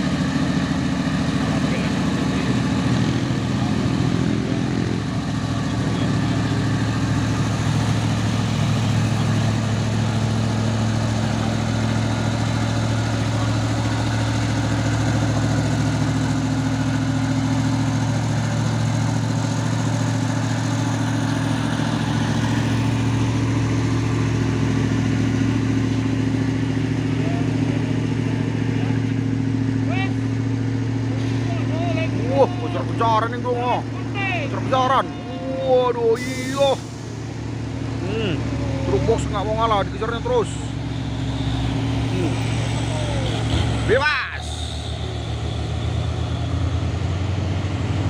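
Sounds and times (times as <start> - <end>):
heavy truck engines droning: 0.0 - 48.0.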